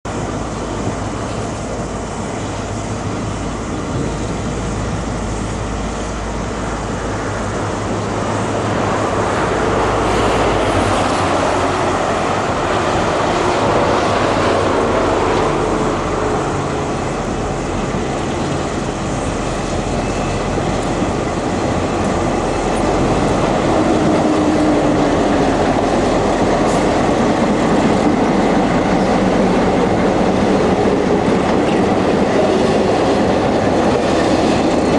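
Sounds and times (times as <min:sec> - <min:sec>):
train engine drone: 0:00.1 - 0:34.9
wagons rumbling on rails: 0:00.1 - 0:34.9.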